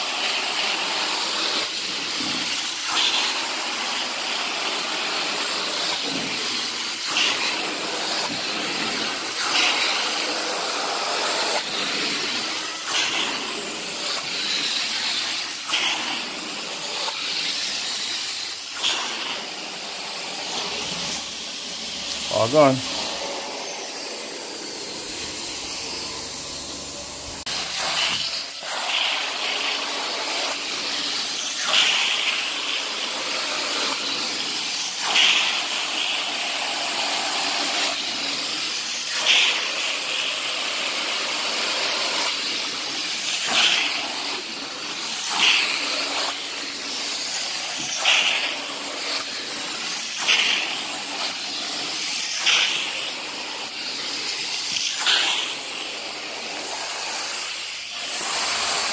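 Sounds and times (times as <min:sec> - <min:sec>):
carpet cleaning wand hissing: 0:00.0 - 0:58.9.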